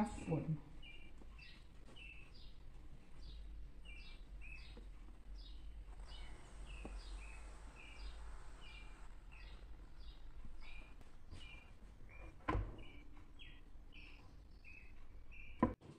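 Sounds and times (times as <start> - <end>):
low hum: 0.0 - 15.7
bird chirping: 0.0 - 15.8.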